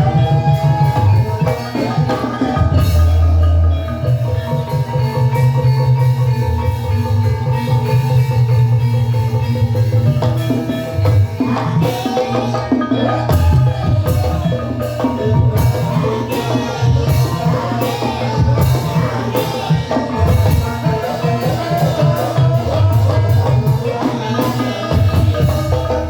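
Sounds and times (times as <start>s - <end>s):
gamelan music: 0.0s - 26.0s
steady drum beat: 0.0s - 26.0s.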